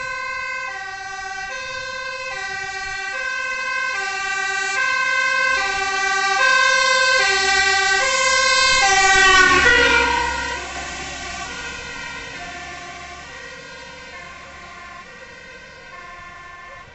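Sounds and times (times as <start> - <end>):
truck diesel engine rumbling: 0.0 - 16.9
two-tone siren: 0.0 - 16.9.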